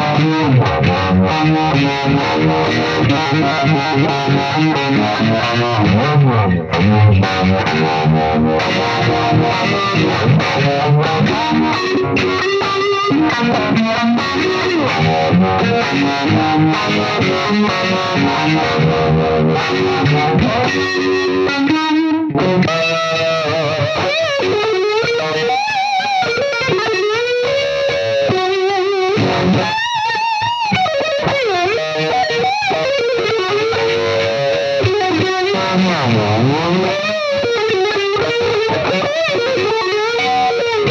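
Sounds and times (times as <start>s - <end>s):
distorted electric guitar with vibe: 0.0s - 40.9s.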